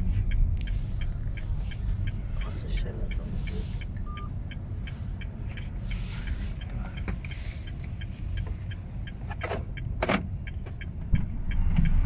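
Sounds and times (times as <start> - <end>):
indicator relay ticking: 0.1 - 12.0.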